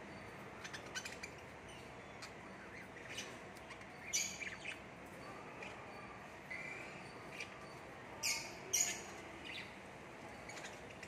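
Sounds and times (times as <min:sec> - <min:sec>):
small parrots chirping: 0:00.0 - 0:11.0.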